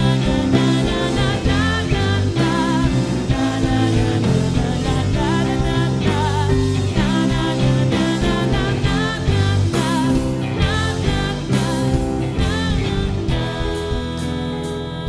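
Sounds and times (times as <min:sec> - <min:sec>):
bass line: 0:00.0 - 0:15.0
guitar: 0:00.0 - 0:15.0
person singing: 0:00.0 - 0:15.0.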